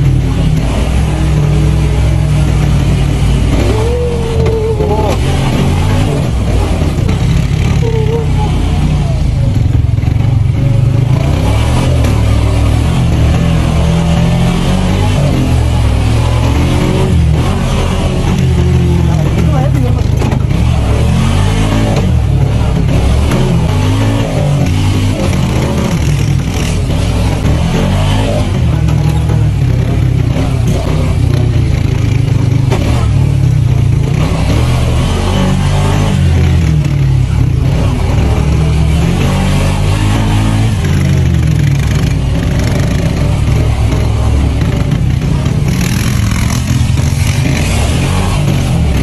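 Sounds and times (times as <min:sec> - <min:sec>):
buggy engine droning: 0:00.0 - 0:49.0.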